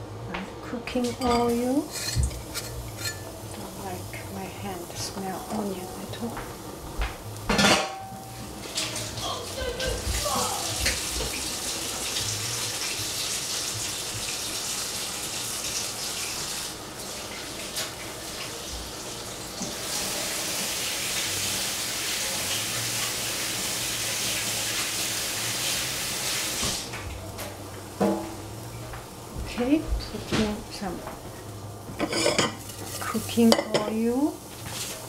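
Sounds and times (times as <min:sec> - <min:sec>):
water running from tap: 0:01.0 - 0:27.1, 0:28.5 - 0:35.0.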